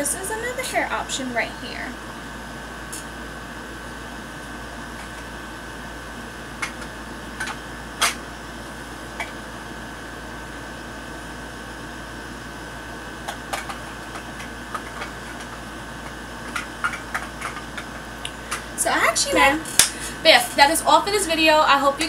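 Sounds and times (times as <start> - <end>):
room hiss and low hum: 0.0 - 22.0.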